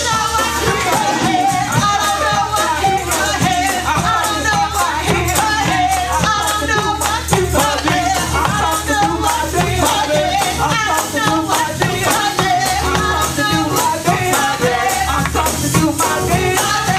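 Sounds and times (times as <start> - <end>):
gospel music: 0.0 - 16.9
hand percussion jingling: 0.0 - 16.9
voices singing: 0.0 - 16.9.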